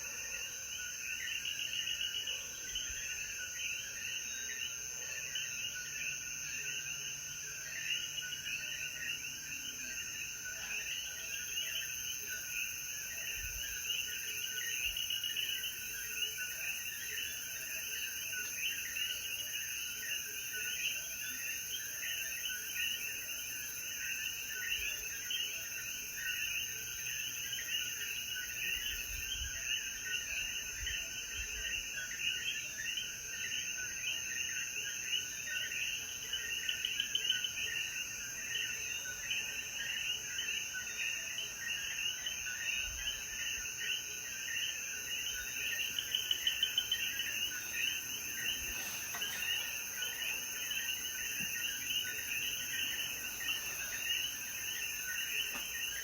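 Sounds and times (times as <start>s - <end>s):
frogs chirping: 0.0s - 56.0s
high insect drone: 6.0s - 56.0s.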